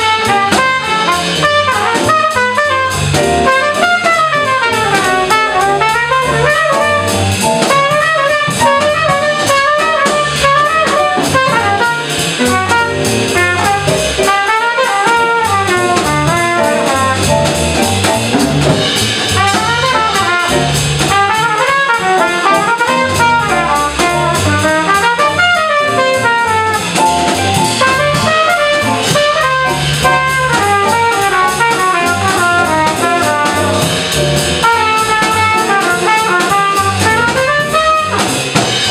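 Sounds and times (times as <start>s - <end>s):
drum kit: 0.0s - 38.9s
trumpet playing fast lines: 0.0s - 38.9s
upright bass: 0.0s - 38.9s.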